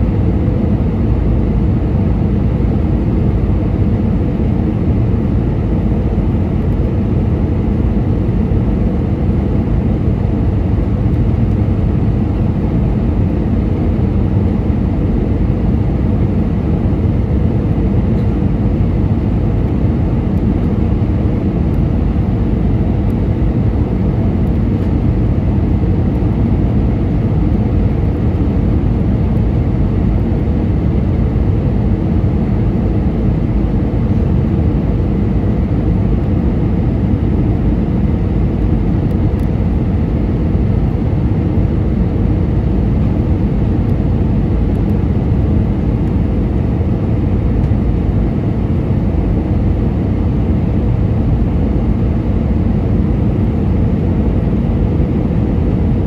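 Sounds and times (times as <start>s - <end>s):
airplane cabin roar: 0.0s - 56.0s.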